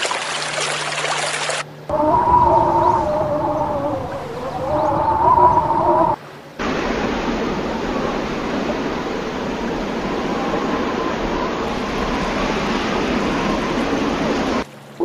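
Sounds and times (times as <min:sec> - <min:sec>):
steady rushing noise: 0:01.9 - 0:14.7.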